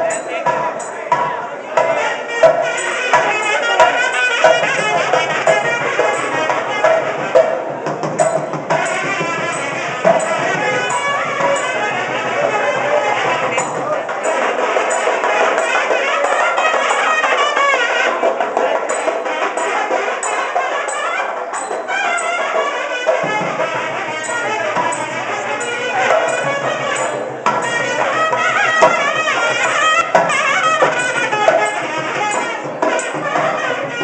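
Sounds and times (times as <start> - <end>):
barrel drums beaten briskly: 0.0 - 34.0
shrill reed wind instrument melody: 0.0 - 34.0.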